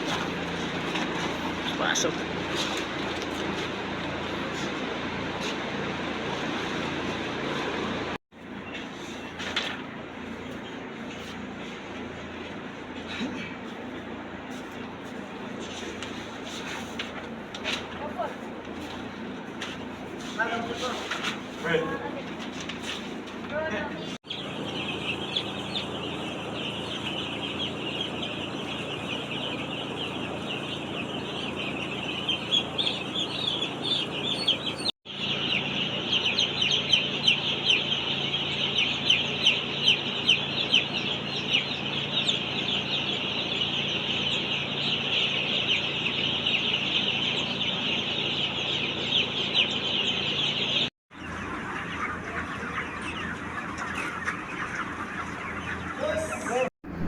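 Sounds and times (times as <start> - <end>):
chickens peeping and clucking: 0.0 - 57.0.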